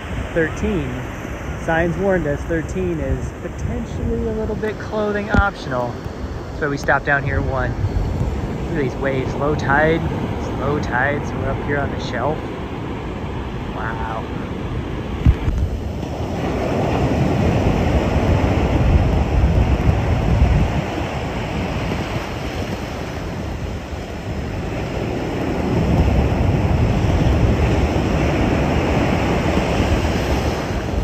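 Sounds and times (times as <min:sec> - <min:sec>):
surf washing over sand: 0:00.0 - 0:31.0
wind rumbling on microphone: 0:00.0 - 0:31.0.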